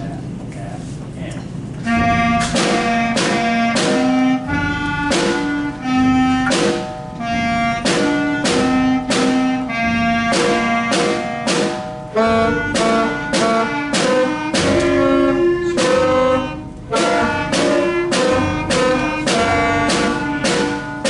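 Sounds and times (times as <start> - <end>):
school band playing: 1.8 - 21.0.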